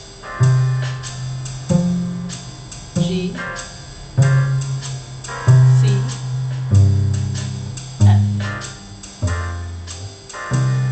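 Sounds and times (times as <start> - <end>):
cello plucked notes: 0.0 - 10.9.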